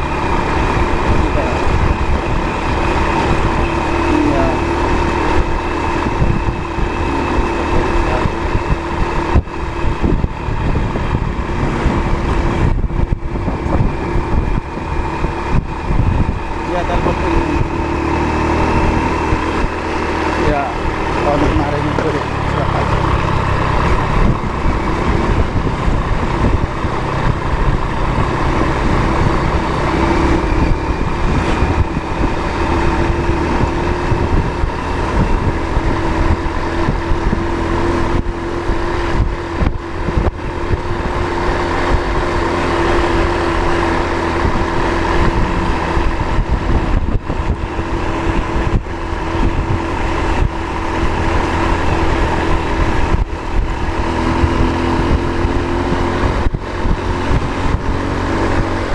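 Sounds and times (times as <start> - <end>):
road rumble: 0.0 - 58.9
vehicle engine drone: 0.0 - 58.9
wind noise: 0.0 - 58.9.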